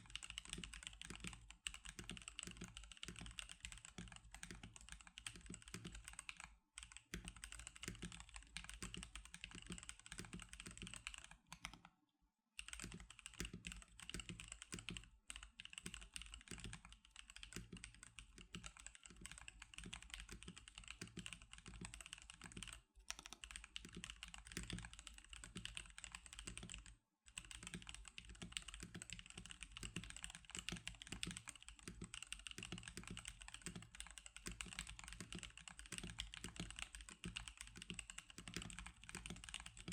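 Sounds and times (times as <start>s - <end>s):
mechanical keyboard typing: 0.0s - 11.9s, 12.6s - 39.9s.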